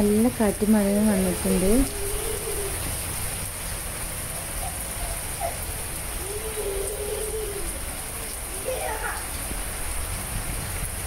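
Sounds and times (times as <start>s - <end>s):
steady rain falling: 0.0s - 11.0s
wind rumbling on microphone: 0.0s - 11.0s.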